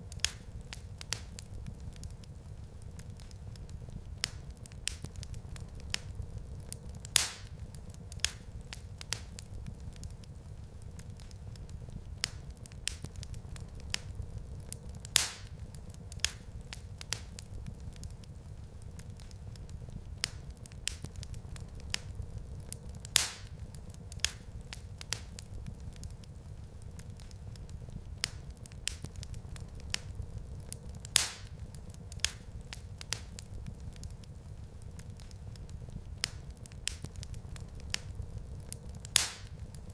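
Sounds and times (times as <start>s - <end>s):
wood fire crackling: 0.0s - 39.9s
loud fire pops: 0.1s - 39.9s.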